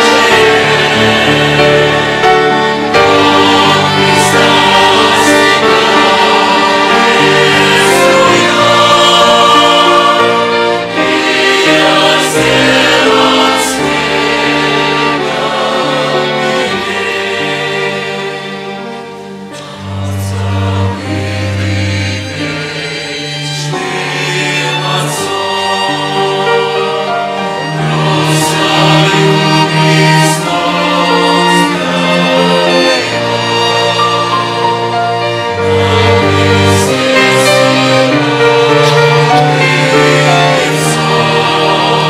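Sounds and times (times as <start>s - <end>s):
choir singing: 0.0s - 42.0s
violins playing long notes: 0.0s - 42.0s.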